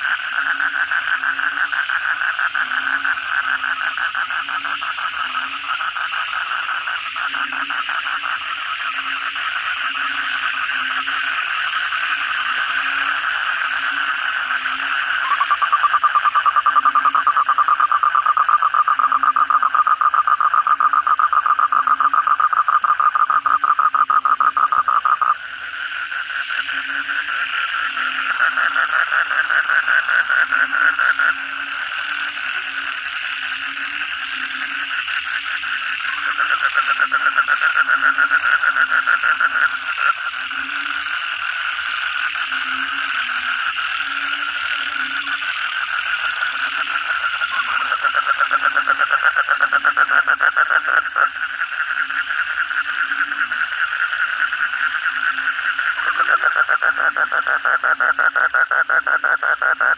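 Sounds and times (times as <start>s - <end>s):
frogs and toads trilling: 0.0s - 59.9s
low frog croak: 0.0s - 59.9s.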